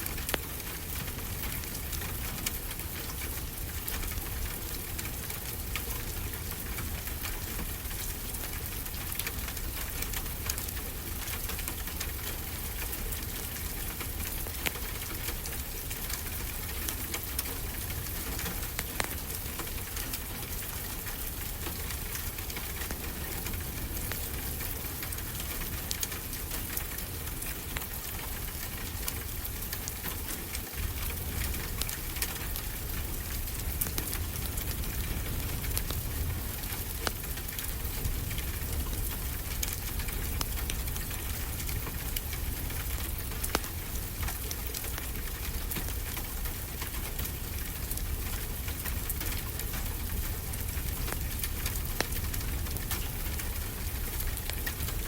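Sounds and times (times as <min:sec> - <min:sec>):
rain pattering: 0:00.0 - 0:55.0
wood fire crackling: 0:00.0 - 0:55.0.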